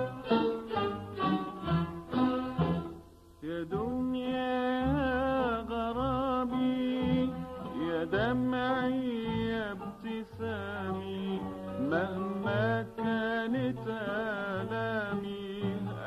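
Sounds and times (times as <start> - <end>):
slow melody with ornamented notes: 0.0 - 15.6
low musical accompaniment: 0.0 - 16.0.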